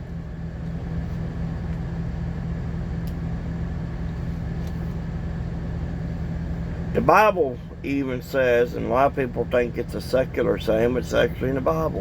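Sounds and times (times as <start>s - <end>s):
truck engine drone from cab: 0.0s - 12.0s.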